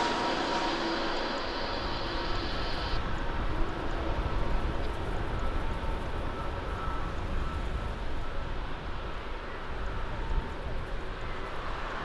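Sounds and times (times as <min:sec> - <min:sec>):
jet airliner engines rumbling: 0:00.0 - 0:12.0.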